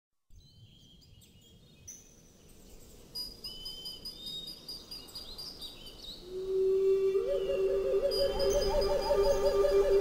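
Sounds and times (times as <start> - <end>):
faint steady background hiss: 0.3 - 10.0
birds singing and chirping: 0.4 - 6.3, 7.2 - 10.0.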